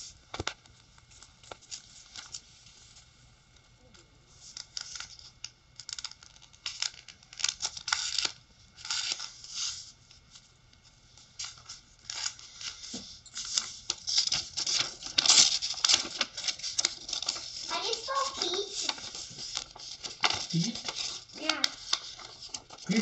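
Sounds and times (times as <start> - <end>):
paper rustling and crinkling: 0.0 - 3.1, 4.4 - 23.0.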